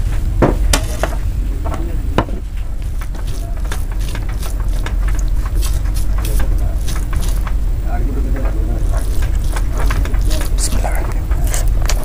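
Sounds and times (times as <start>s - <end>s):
fingers mixing rice on plate: 0.8s - 12.0s.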